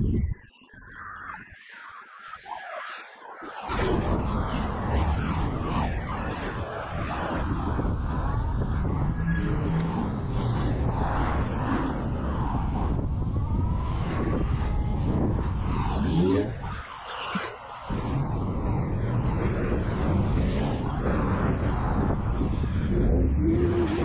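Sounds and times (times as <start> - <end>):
wind buffeting microphone: 0.0 - 0.5, 3.6 - 24.0
wind rush and road noise: 0.0 - 1.0, 3.6 - 24.0.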